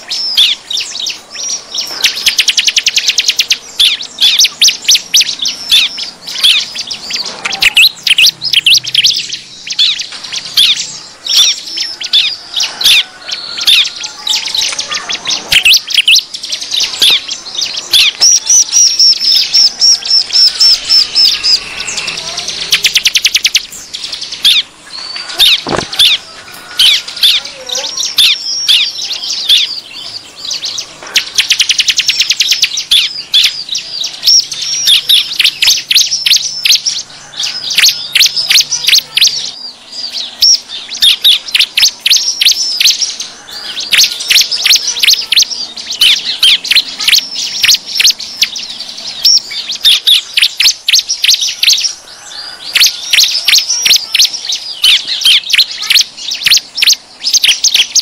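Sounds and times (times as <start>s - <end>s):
bird chattering chirps: 0.0s - 58.0s.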